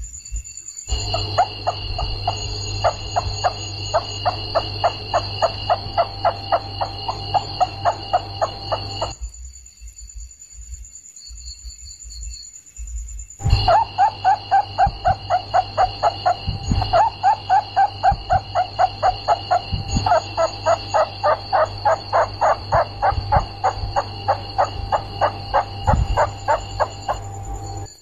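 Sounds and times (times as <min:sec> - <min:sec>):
high-pitched ringing: 0:00.7 - 0:09.4, 0:13.4 - 0:28.0
low hum: 0:00.9 - 0:09.2, 0:13.4 - 0:28.0
rats squeaking: 0:00.9 - 0:09.2, 0:13.4 - 0:27.9.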